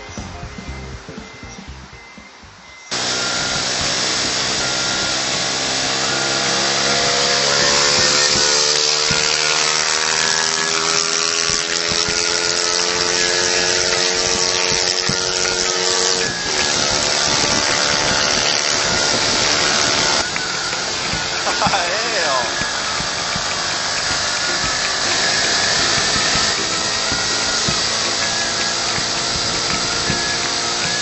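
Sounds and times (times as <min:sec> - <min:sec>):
motorcycle engine running: 0:02.9 - 0:31.0
wind rush over microphone: 0:06.0 - 0:31.0.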